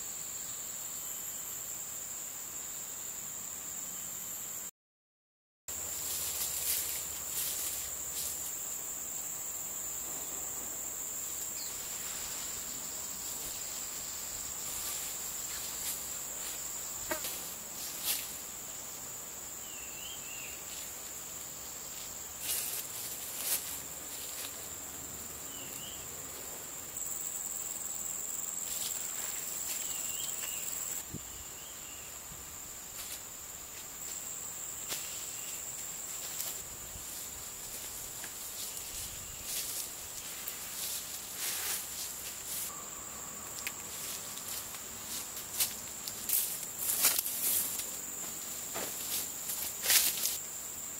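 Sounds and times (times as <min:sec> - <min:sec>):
insects droning: 0:00.0 - 0:04.7, 0:05.7 - 0:50.9.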